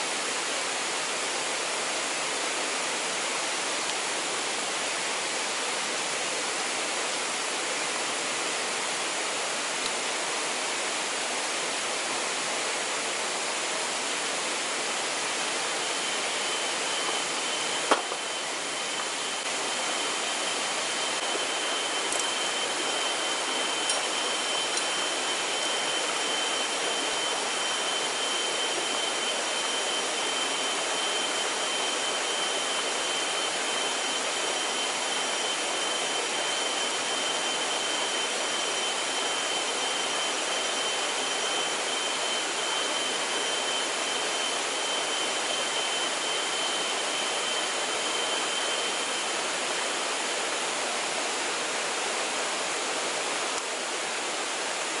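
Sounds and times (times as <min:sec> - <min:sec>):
thin high whine: 0:00.0 - 0:55.0.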